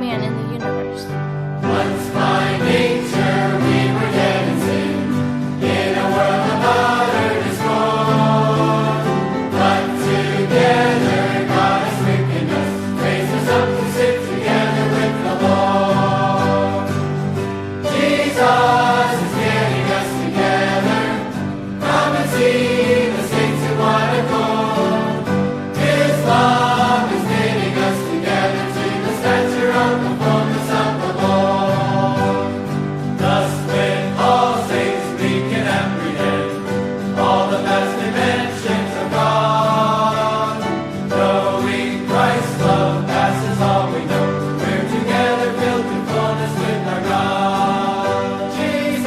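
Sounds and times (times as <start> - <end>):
choir singing a hymn: 1.5 - 49.0.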